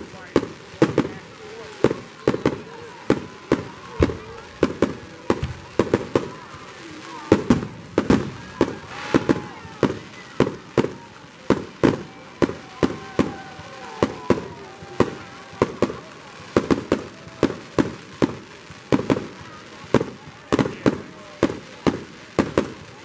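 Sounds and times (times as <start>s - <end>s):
fireworks bursting with bangs: 0.0s - 23.0s.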